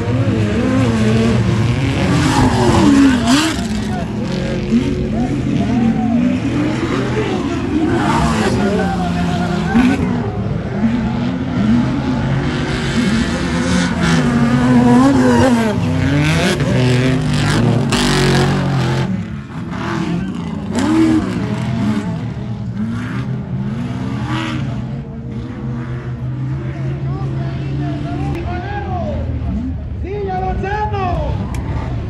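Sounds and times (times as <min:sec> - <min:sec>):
off-road engines revving: 0:00.0 - 0:32.0.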